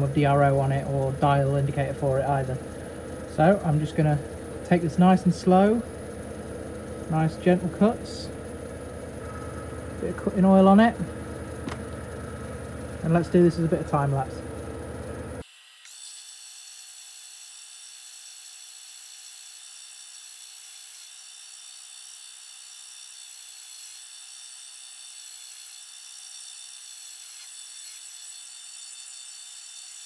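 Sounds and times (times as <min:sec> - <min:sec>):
high-pitched lathe whir: 0:00.0 - 0:30.0.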